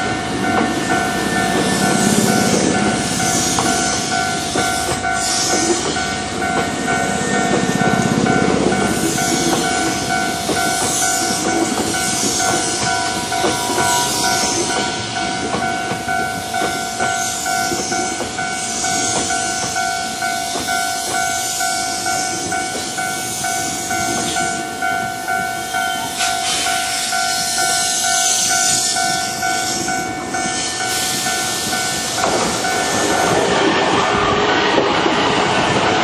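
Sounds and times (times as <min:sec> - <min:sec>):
level crossing warning bell: 0:00.0 - 0:34.8
train wheels clattering on rails: 0:00.0 - 0:36.0.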